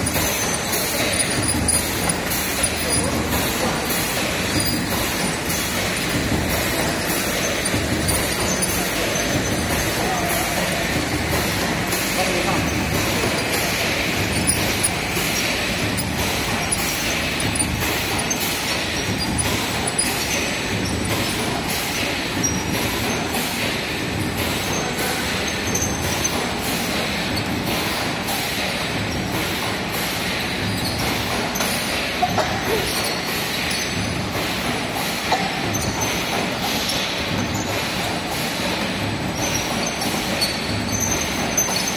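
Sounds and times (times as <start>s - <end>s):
machine mechanical rattle: 0.0s - 41.9s.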